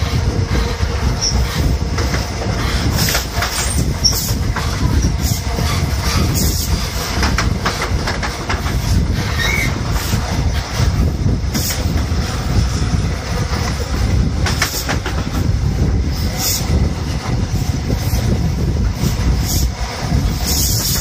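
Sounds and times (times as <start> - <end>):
train swishes: 0.0 - 21.0
train wheels rumbling on rails: 0.0 - 21.0.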